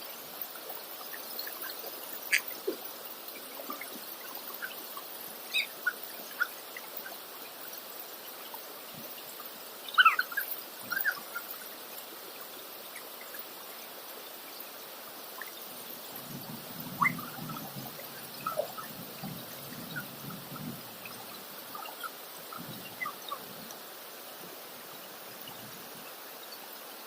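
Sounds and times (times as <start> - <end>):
river water babbling: 0.0 - 27.0
water splashes and drips: 0.0 - 27.0.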